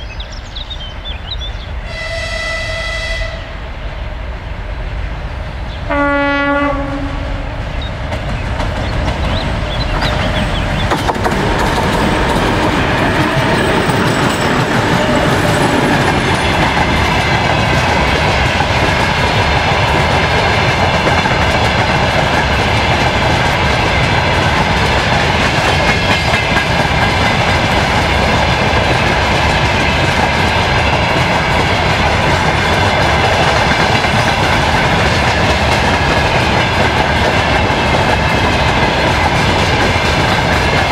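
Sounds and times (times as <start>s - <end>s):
freight train rumbling past: 0.0s - 40.9s
wheels clacking over rail joints: 7.9s - 40.9s.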